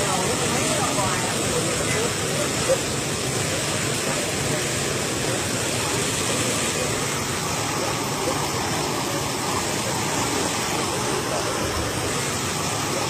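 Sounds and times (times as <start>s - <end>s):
water pouring onto dirt: 0.0s - 13.0s.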